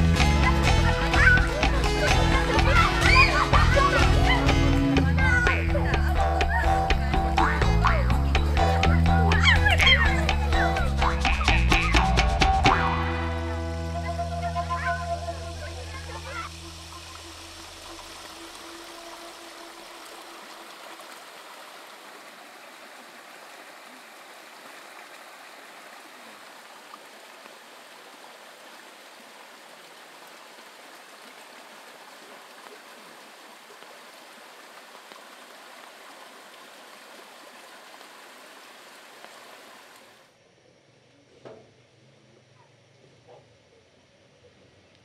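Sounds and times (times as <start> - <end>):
stream running over rocks: 0.0 - 40.4.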